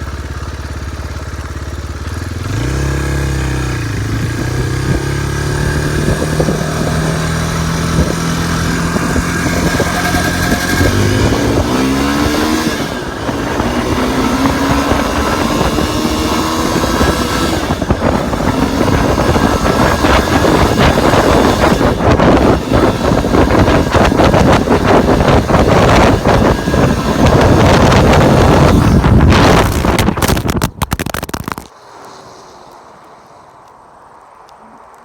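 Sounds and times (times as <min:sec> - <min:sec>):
dirt bike engine revving: 0:02.0 - 0:31.6.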